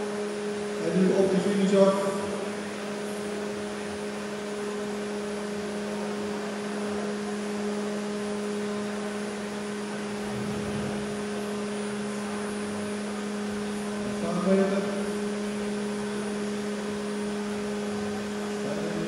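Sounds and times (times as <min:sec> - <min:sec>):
steady two-tone hum: 0:00.0 - 0:19.0.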